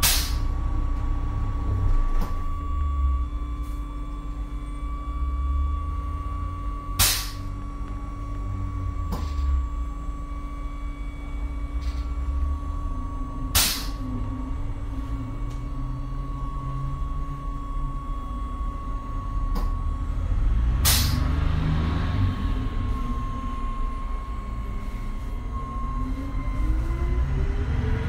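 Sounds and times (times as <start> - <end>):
bus engine low rumble: 0.0 - 28.0
steady high whine: 0.0 - 28.0.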